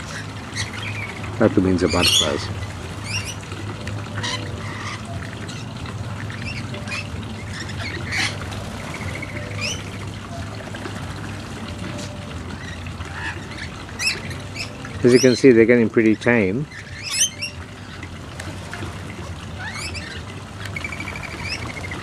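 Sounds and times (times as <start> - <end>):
lorikeets screeching: 0.0 - 3.5, 4.1 - 10.6, 11.9 - 15.6, 16.3 - 18.2, 19.1 - 22.0
steady low hum: 0.0 - 22.0.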